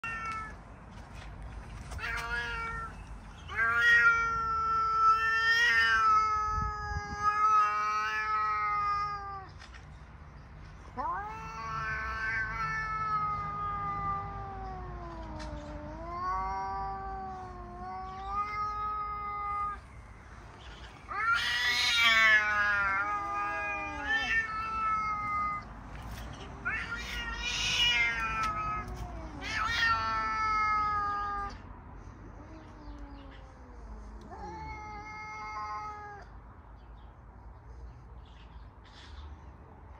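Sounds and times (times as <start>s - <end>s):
cats yowling: 0.0s - 0.6s, 2.0s - 9.6s, 10.9s - 19.9s, 20.8s - 31.6s, 32.2s - 36.4s.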